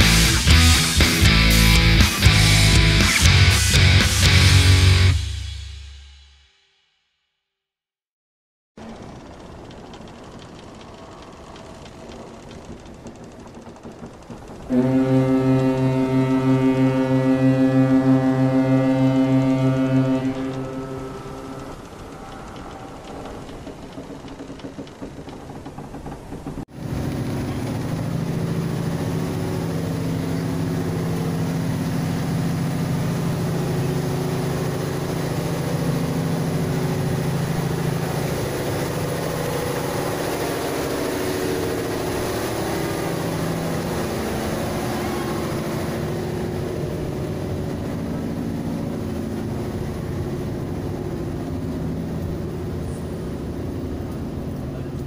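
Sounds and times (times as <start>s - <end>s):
boat engine droning: 8.8s - 55.0s.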